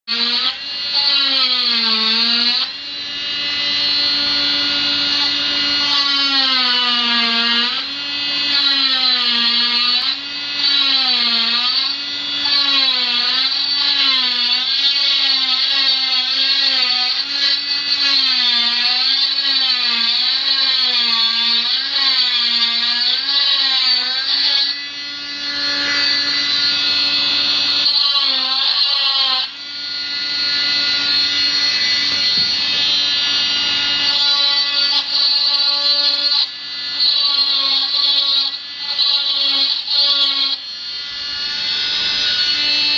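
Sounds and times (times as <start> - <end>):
cast saw whining: 0.0 - 42.9.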